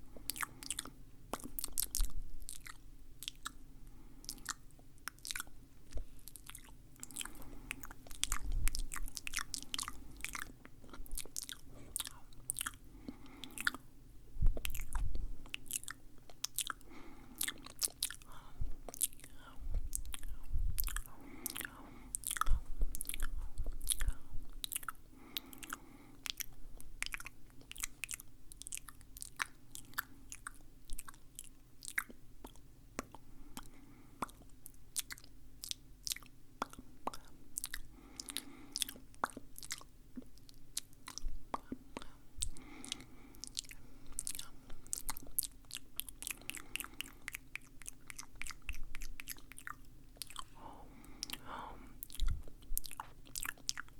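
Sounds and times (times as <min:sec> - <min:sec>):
wet lip and tongue clicks: 0:00.2 - 0:03.6, 0:04.2 - 0:13.8, 0:14.4 - 0:50.5, 0:51.1 - 0:53.9.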